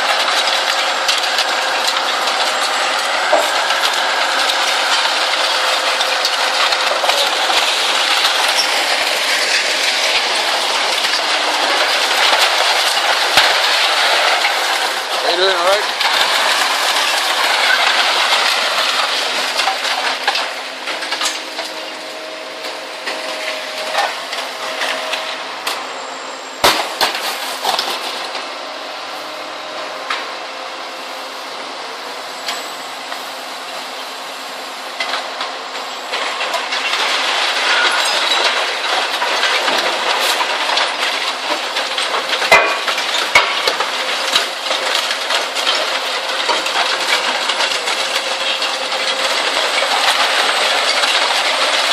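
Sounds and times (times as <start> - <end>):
shredder crunching scrap metal: 0.0 - 51.9.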